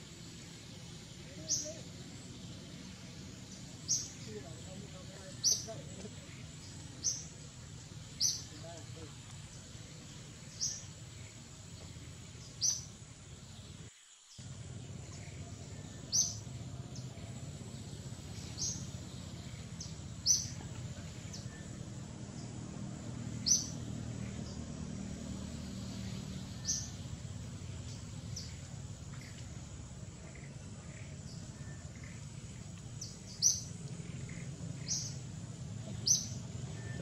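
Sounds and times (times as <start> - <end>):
steady low rumble: 0.0 - 37.0
bird chirping: 0.1 - 37.0.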